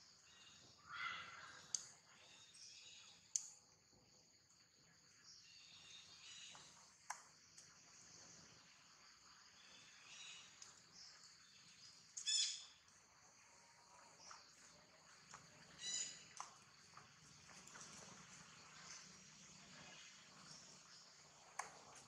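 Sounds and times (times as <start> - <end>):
faint insect hiss: 0.0 - 22.0.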